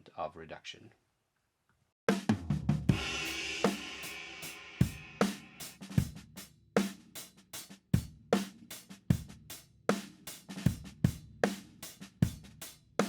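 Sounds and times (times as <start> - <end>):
drum kit steady beat: 2.1 - 13.0.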